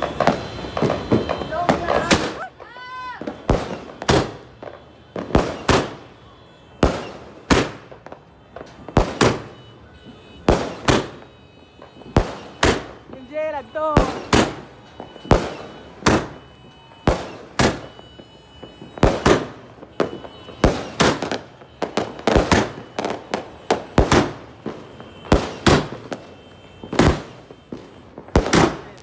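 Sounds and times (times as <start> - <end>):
fireworks bangs echoing: 0.0 - 29.0.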